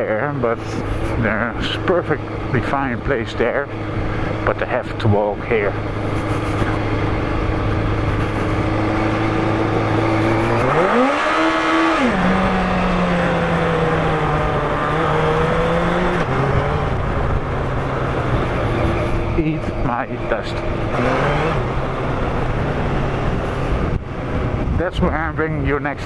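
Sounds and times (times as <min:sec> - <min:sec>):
motorcycle engine revving: 0:00.0 - 0:25.4.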